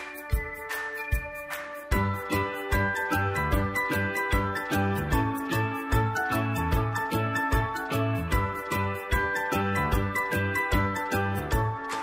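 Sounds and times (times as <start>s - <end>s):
bell-like tinkling: 0.0s - 12.0s
music with steady beat: 0.0s - 12.0s
pulsing bass line: 2.0s - 11.8s.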